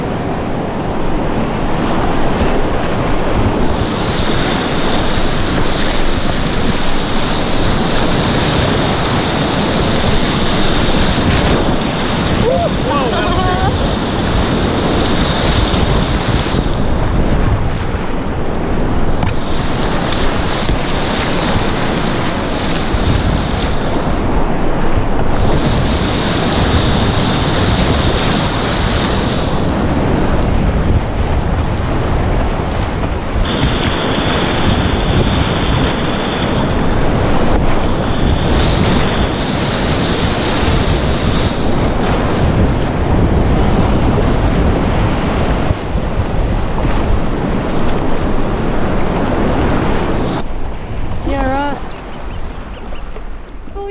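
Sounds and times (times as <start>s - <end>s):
water spraying over boat: 0.0s - 51.8s
whitewater rapids rushing: 0.0s - 51.9s.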